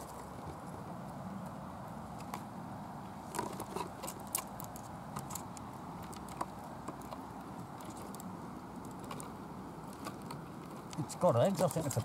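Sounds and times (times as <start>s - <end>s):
twigs scratching against camera: 0.0s - 1.1s, 3.3s - 12.0s.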